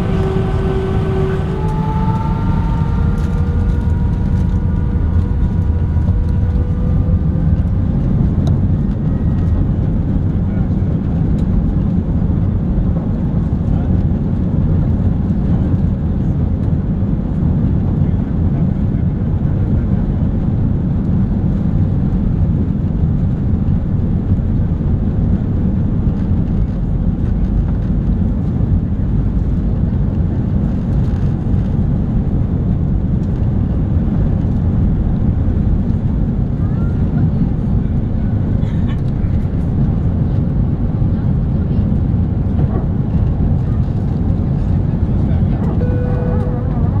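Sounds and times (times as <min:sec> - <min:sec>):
jet engines low rumble: 0:00.0 - 0:47.0.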